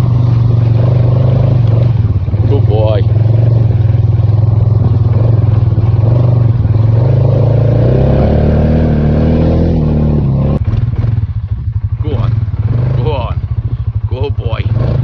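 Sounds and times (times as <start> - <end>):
off-road vehicle engine: 0.0 - 15.0.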